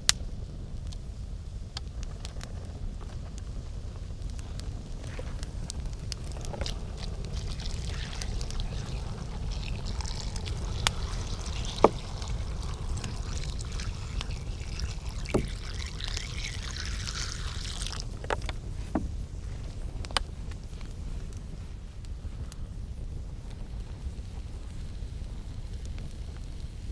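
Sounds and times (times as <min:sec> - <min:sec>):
campfire crackling and popping: 0:00.0 - 0:26.9
steady low rumble: 0:00.0 - 0:26.9.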